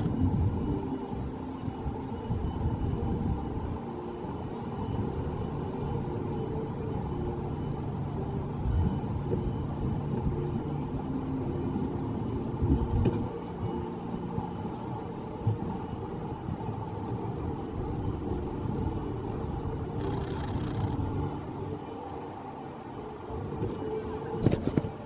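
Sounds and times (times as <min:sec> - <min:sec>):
boat low rumble: 0:00.0 - 0:25.0
faint hum: 0:00.0 - 0:25.0.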